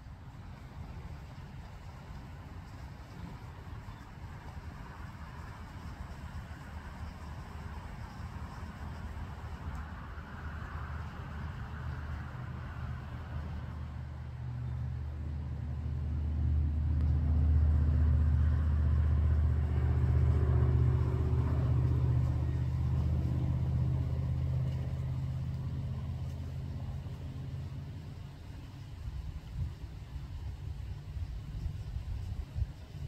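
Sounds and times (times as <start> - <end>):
passing vehicle engine rumble: 0.0 - 33.0.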